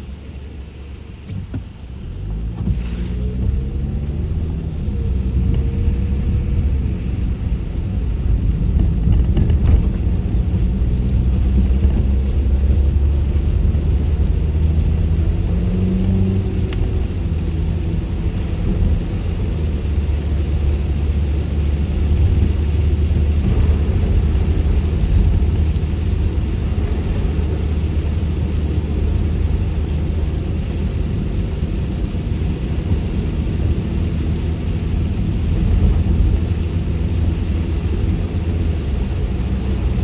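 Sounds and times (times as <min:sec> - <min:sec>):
car cabin rumble: 0:01.1 - 0:40.0.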